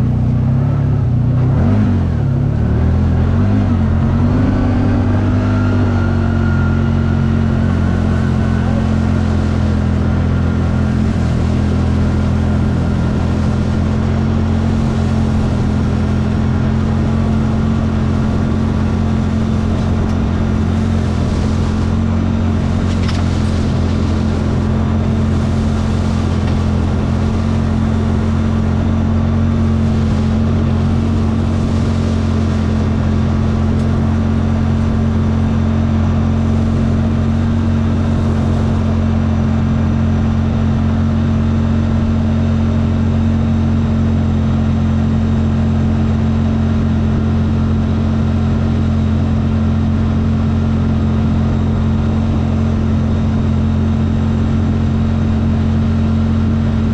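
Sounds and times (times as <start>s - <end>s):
engine droning steadily: 0.0s - 56.9s.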